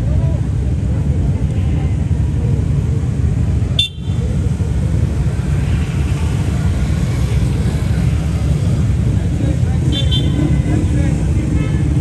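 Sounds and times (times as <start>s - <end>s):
dirt bike engines revving: 1.9s - 12.0s.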